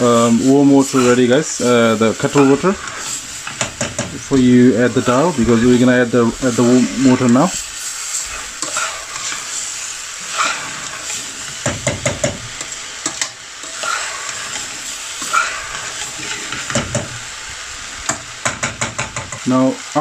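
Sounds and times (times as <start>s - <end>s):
metal spoon scraping a pan: 0.0s - 17.2s
vegetables sizzling in a pan: 0.0s - 20.0s.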